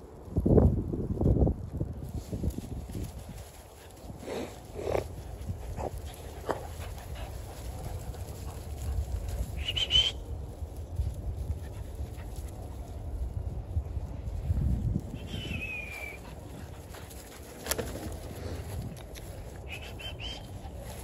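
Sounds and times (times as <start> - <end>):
steady low rumble: 0.0 - 21.0
puppies scuffling in grass: 0.3 - 21.0.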